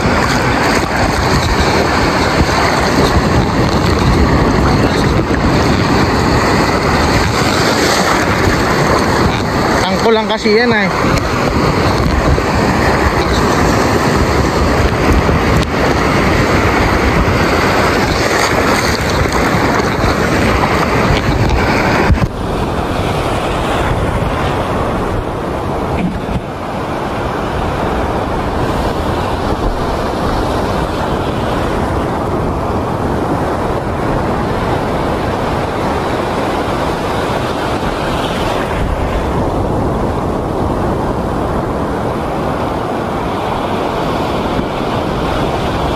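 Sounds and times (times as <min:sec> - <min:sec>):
sea surf: 0:00.0 - 0:45.9
wind on microphone: 0:00.0 - 0:45.9.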